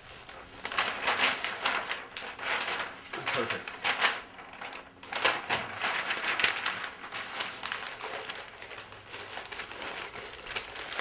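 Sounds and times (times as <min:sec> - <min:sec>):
paper signs rustling and crinkling: 0:00.0 - 0:11.0.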